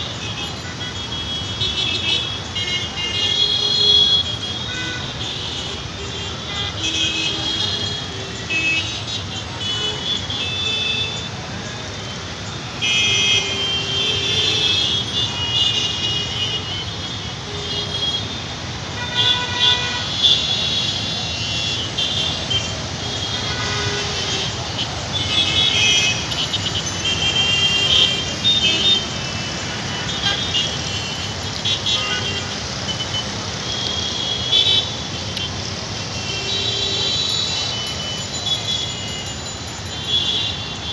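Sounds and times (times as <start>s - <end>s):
horns honking: 0.0s - 40.9s
traffic engine rumble: 0.0s - 40.9s.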